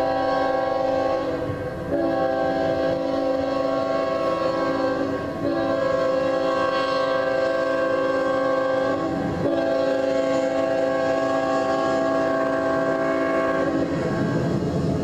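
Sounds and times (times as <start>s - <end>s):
locomotive air horn blasts: 0.0s - 14.7s.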